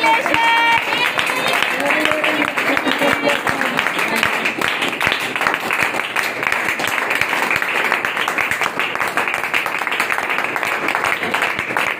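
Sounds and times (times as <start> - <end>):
people clapping: 0.0 - 11.9.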